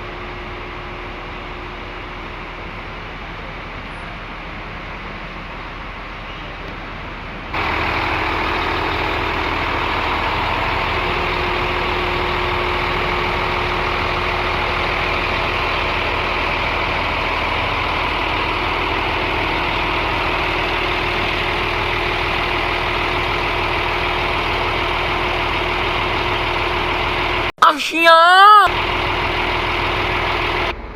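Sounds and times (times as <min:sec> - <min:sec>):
bus diesel engine idling: 0:00.0 - 0:27.5, 0:28.7 - 0:30.9.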